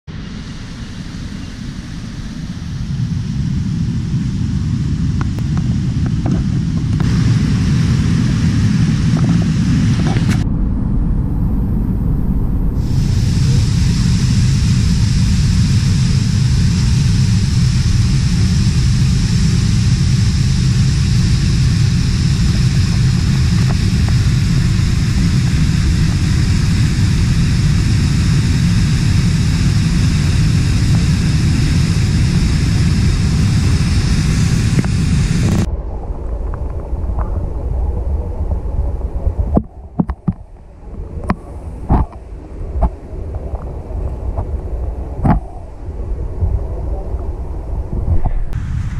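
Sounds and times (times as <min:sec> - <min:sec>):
muffled underwater sound: 0:08.3 - 0:28.4, 0:29.0 - 0:48.6.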